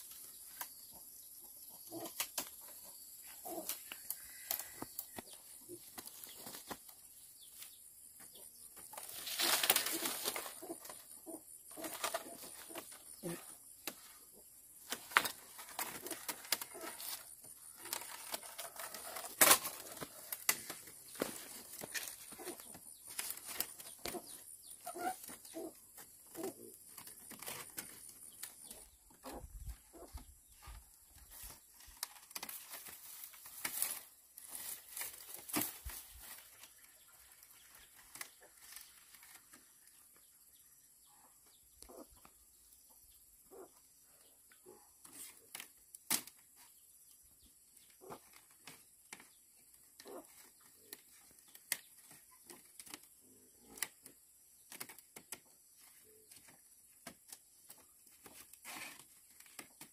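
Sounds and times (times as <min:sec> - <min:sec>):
bamboo strips clicking and scraping: 0:00.0 - 0:01.0, 0:01.9 - 0:40.0, 0:44.7 - 0:46.7, 0:47.7 - 0:59.9.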